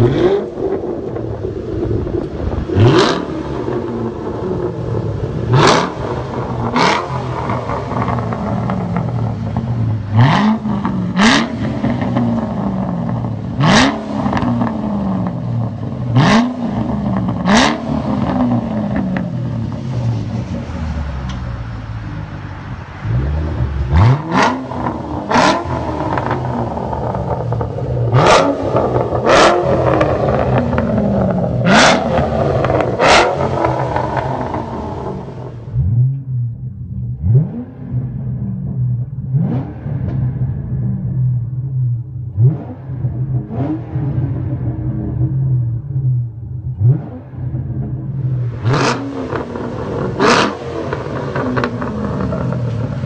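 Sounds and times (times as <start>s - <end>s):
car engine idling and revving: 0.0s - 53.0s
exhaust crack: 0.0s - 53.0s.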